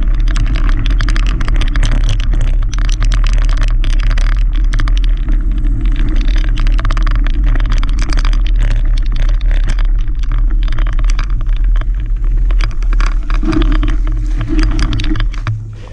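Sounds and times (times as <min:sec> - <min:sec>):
bike rattling: 0:00.0 - 0:15.9
steady low rumble: 0:00.0 - 0:15.9.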